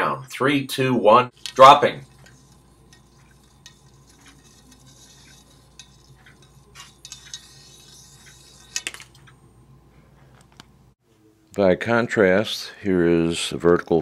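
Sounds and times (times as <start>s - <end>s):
faint steady hum: 1.4s - 13.2s.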